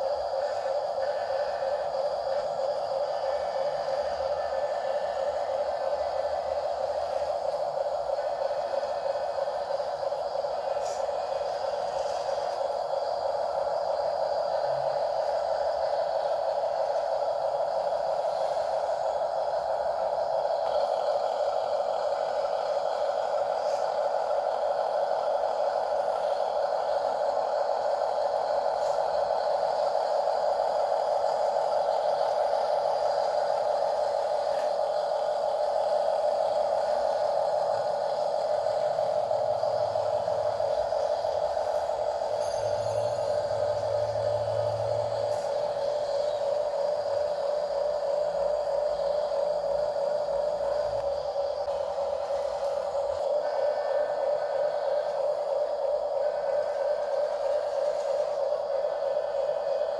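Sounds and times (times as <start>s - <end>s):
rc car electric motor whining: 0.0s - 59.9s.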